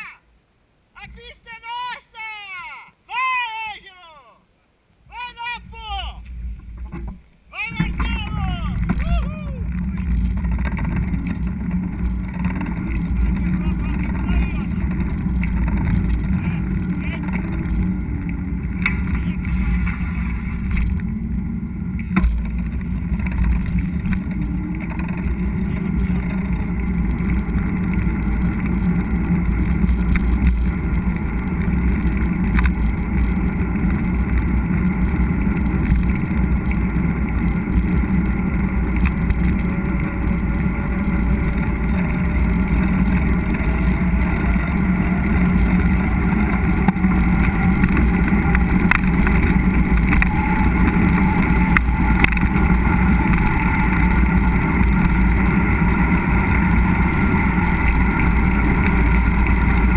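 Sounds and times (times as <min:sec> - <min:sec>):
wind rush on microphone: 0:05.0 - 0:59.9
bike rolling over dirt trail: 0:06.2 - 0:59.9.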